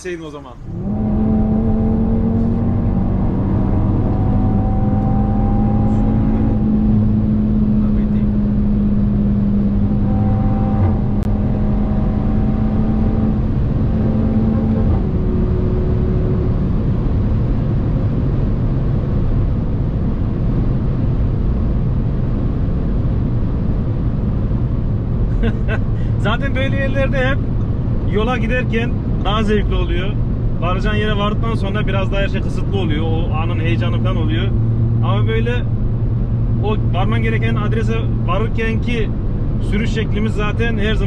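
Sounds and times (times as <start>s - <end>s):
car engine drone: 0.0s - 41.0s
road and tyre rumble: 0.0s - 41.0s.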